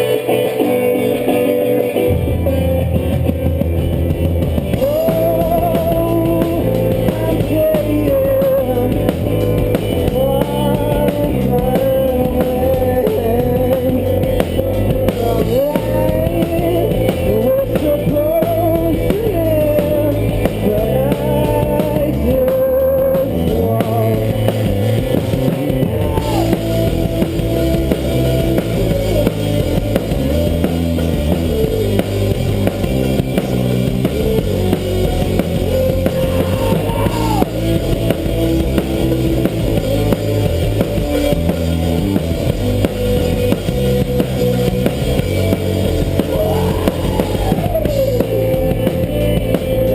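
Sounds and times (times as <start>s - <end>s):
melody line over band: 0.0s - 49.9s
rock band playing live: 0.0s - 49.9s.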